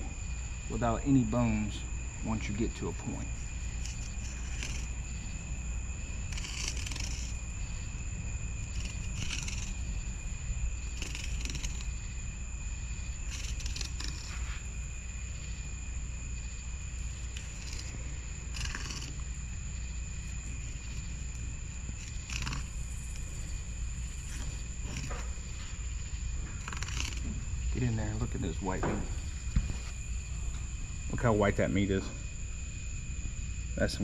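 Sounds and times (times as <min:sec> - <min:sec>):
crickets trilling: 0:00.0 - 0:34.0
steady low hum: 0:00.0 - 0:34.0
short scratchy insect bursts: 0:00.7 - 0:32.8.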